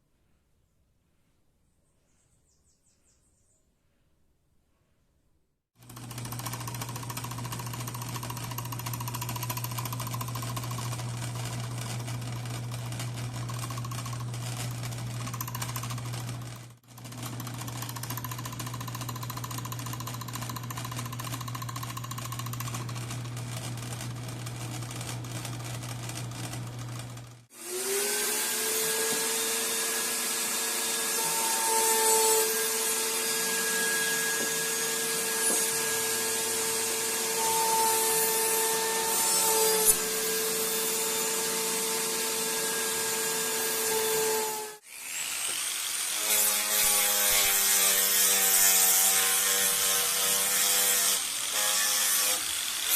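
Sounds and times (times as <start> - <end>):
power tool humming: 5.8 - 52.9.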